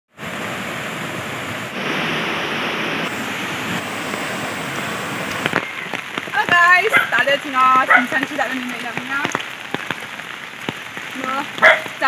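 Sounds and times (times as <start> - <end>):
river rushing over rapids: 0.2 - 12.0.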